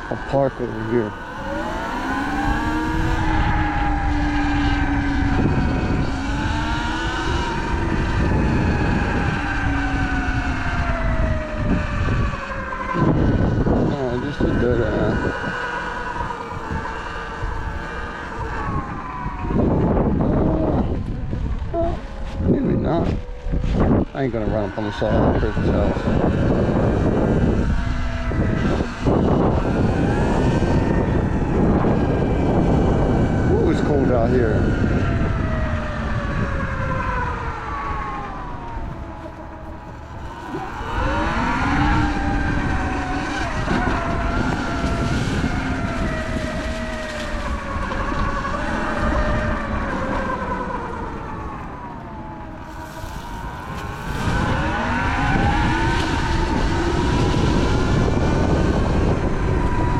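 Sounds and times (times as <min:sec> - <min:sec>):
electric dirt bike motor whining: 0:00.0 - 0:59.9
wind rumble on microphone: 0:00.0 - 0:59.9.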